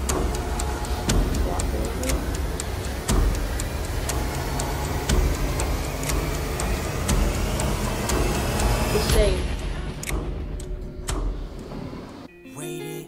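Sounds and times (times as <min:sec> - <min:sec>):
clock ticking: 0:00.0 - 0:12.3
low steady rumble: 0:00.0 - 0:12.3.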